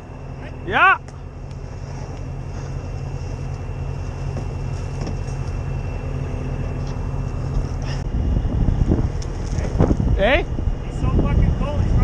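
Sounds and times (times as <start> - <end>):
diesel engine rumbling: 0.0 - 12.0
faint high whine: 0.0 - 12.0.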